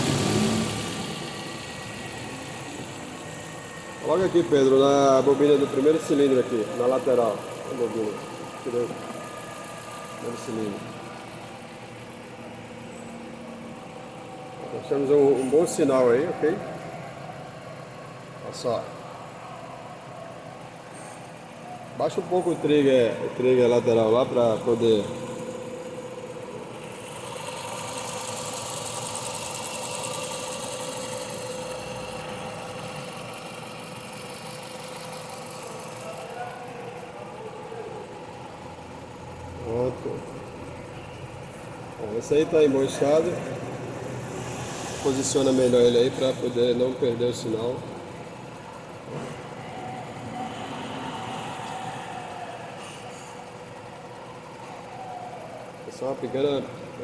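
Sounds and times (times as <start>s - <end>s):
car engine idling with misfires: 0.0s - 57.0s.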